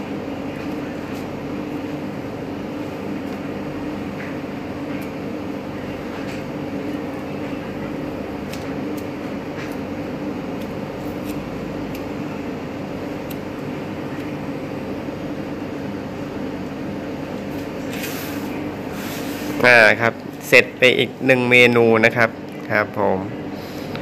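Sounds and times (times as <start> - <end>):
room equipment humming and hissing: 0.0 - 24.0.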